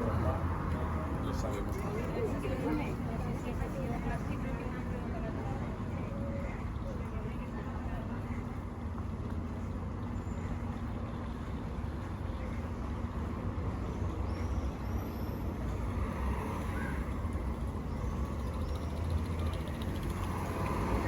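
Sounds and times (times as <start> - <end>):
low rumble of road traffic: 0.0 - 21.0.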